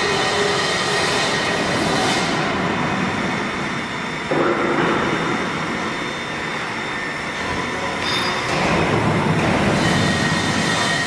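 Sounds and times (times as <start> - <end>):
milling machine with coolant spray: 0.0 - 11.0
thin steady whining tones: 0.0 - 11.0.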